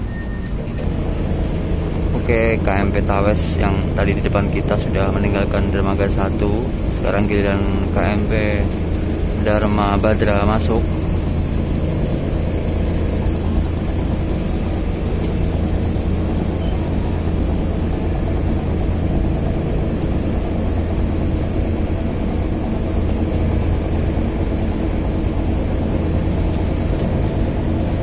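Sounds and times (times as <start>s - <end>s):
ship diesel engines droning: 0.0s - 28.0s.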